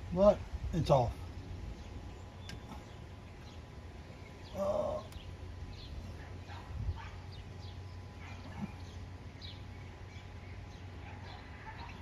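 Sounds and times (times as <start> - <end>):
birds chirping: 0.0 - 12.0
low background hum: 0.0 - 12.0.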